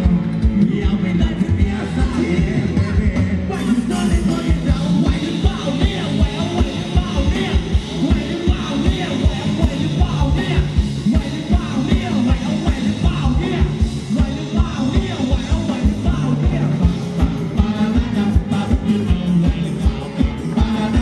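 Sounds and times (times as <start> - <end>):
dance band playing: 0.0 - 21.0
fast drum beat: 0.0 - 21.0
person singing: 0.0 - 21.0.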